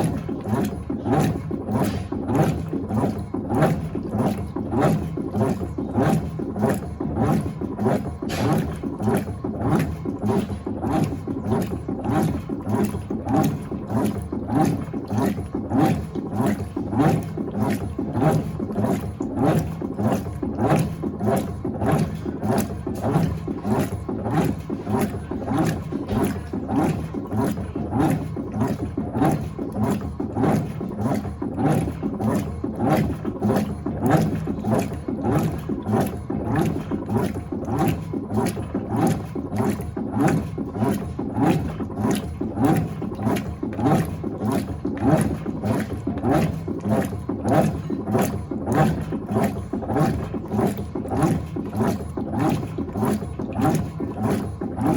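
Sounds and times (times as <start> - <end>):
washing machine churning water: 0.0 - 54.9.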